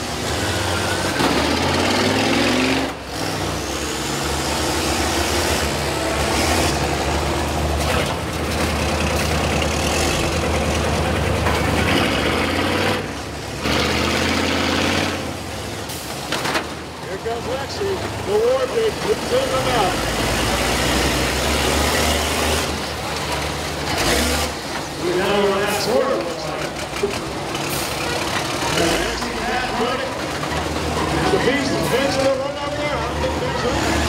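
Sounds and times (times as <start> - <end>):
bus engines revving under load: 0.0 - 34.0.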